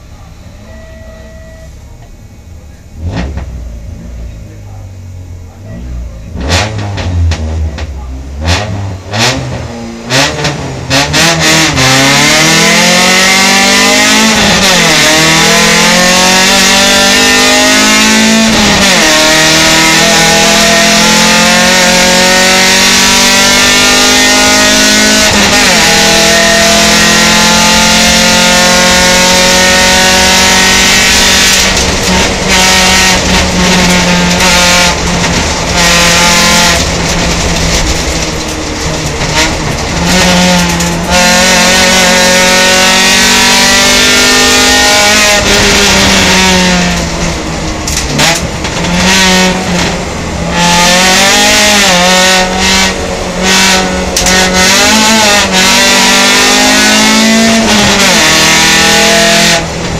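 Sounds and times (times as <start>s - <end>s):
race car engine revving and accelerating: 5.5s - 59.9s.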